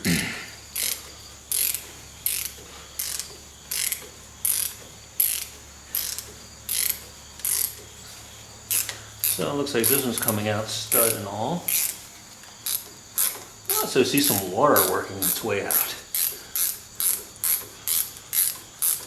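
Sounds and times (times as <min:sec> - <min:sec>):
ratchet wrench clicking: 0:00.7 - 0:07.8, 0:08.7 - 0:12.0, 0:12.6 - 0:19.0.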